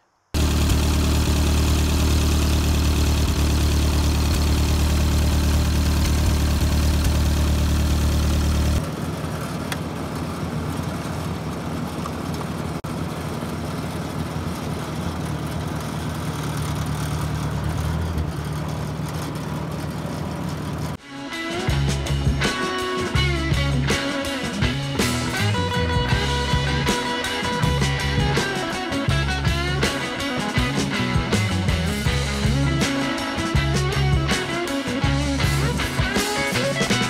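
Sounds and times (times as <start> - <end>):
tractor engine running: 0.3 - 21.0, 21.6 - 37.0.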